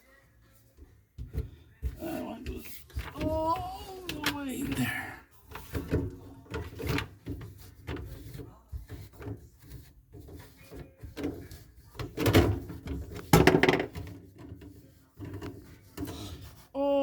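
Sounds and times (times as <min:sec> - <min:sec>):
plumbing parts knocking and scraping: 0:00.7 - 0:16.6.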